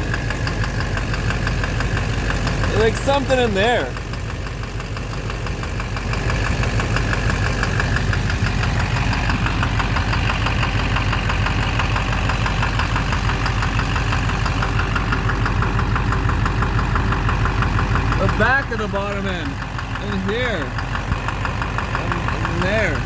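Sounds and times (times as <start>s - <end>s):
diesel engine idling with knock: 0.0s - 23.0s.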